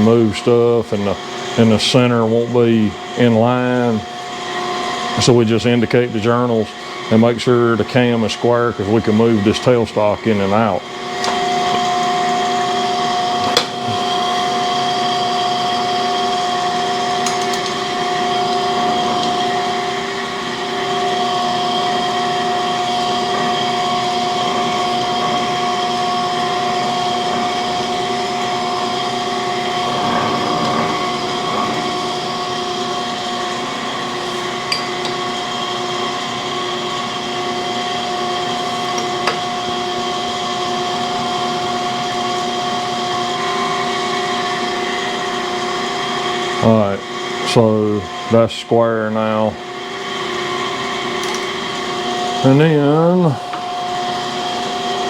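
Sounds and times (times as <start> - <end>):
grinder humming and whining: 0.0 - 55.0.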